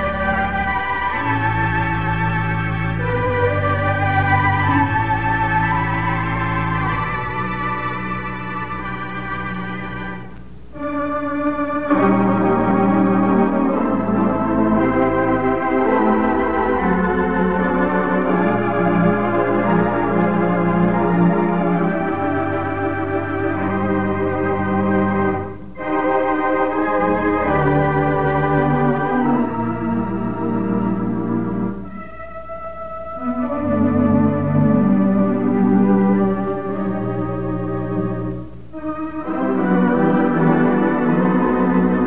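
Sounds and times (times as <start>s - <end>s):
organ playing slow chords: 0.0s - 42.0s.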